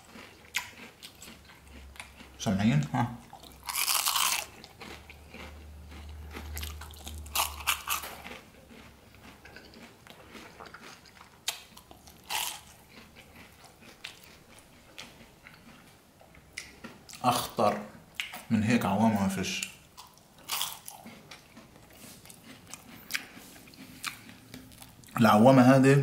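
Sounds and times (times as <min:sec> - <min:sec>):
crunchy food bitten: 0:00.0 - 0:15.9, 0:19.6 - 0:25.2
chewing: 0:00.0 - 0:18.5, 0:19.6 - 0:25.2.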